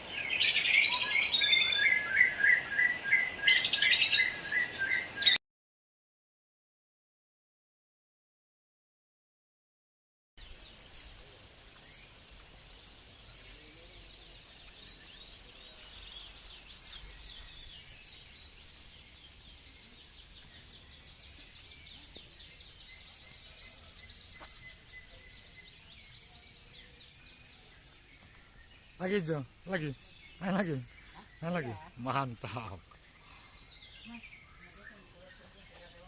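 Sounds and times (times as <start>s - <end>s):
songbirds singing: 0.0s - 5.4s, 10.4s - 36.0s.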